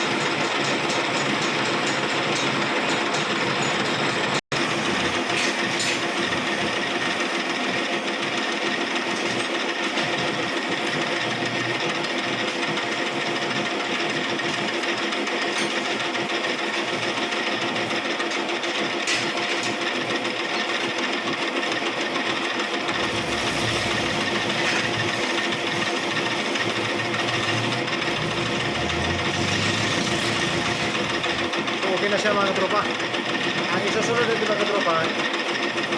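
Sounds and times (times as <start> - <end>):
metal lathe whirring and clattering: 0.0 - 35.9.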